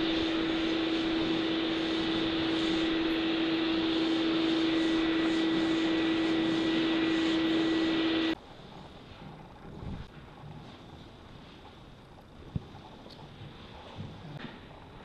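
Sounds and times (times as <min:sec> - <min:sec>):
mechanical fan drone: 0:00.0 - 0:15.0.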